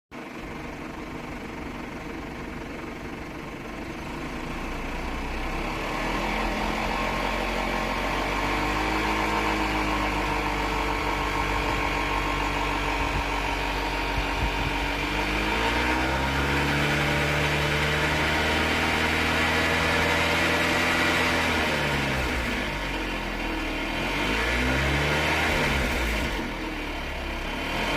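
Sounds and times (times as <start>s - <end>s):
car engine running: 0.1s - 27.9s
abnormal engine running noise: 0.2s - 27.9s.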